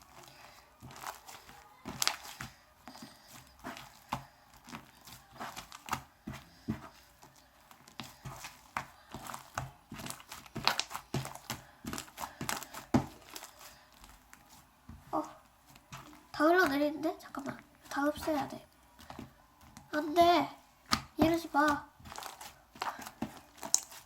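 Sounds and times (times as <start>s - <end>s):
wet slime squishes: 0.0s - 24.0s.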